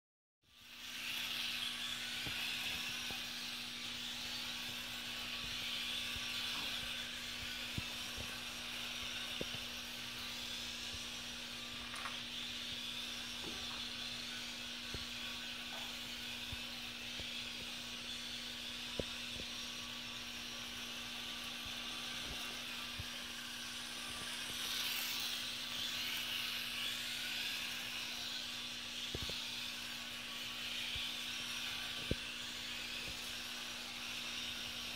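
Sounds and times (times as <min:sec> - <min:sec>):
high electric motor whine: 0:00.5 - 0:34.9.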